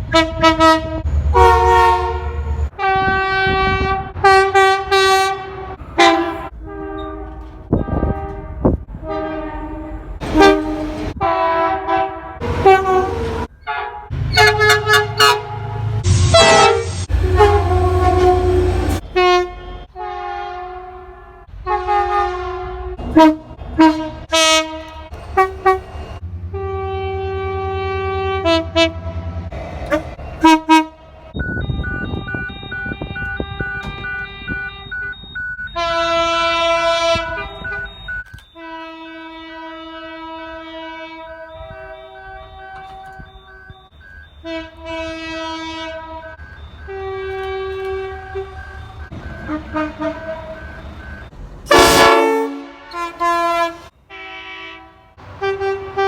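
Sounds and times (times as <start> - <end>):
locomotive air horn blasts: 0.0 - 34.9, 35.8 - 43.8, 44.4 - 51.0, 51.7 - 56.0.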